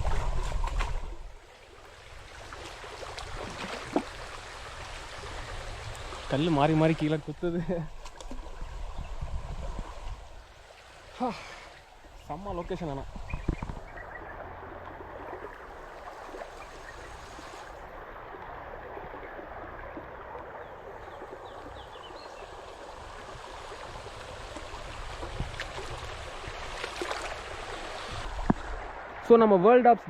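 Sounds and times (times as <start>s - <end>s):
stream flowing over rocks: 0.0s - 30.0s.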